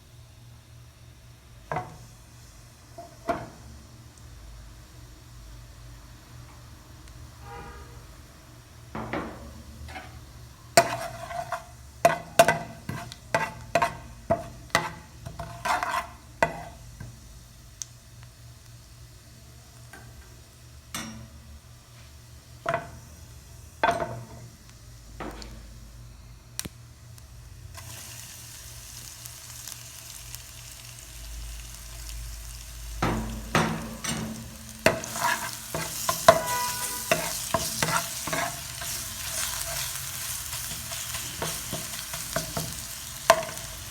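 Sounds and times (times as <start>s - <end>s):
hot oil sizzling: 0.0s - 43.9s.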